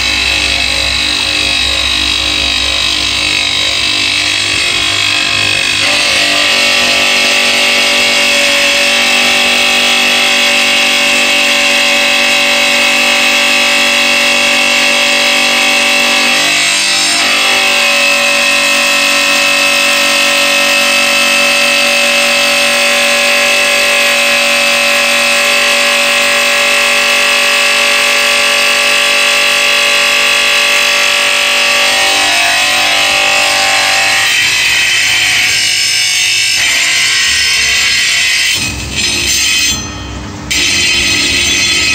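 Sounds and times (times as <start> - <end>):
tile saw grinding tile: 0.0 - 41.9.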